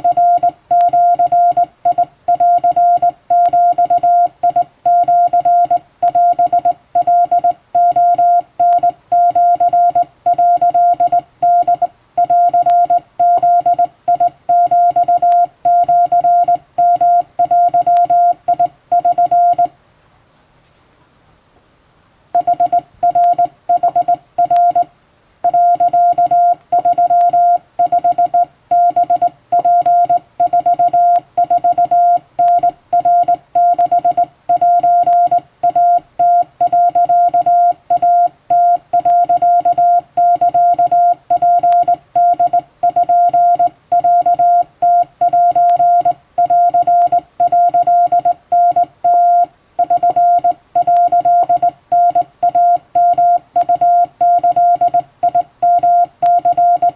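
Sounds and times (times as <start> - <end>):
morse code tone: 0.0 - 19.7, 22.4 - 56.9.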